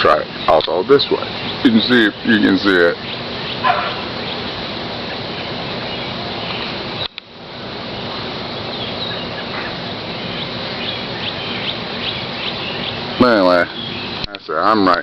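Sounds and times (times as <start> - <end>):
flock of birds chattering: 0.0 - 15.0
short high bird calls: 1.2 - 7.2, 7.9 - 14.2.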